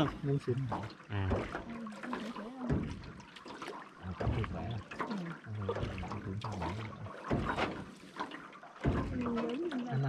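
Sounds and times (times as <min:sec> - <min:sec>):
oars splashing in water: 0:00.0 - 0:10.0.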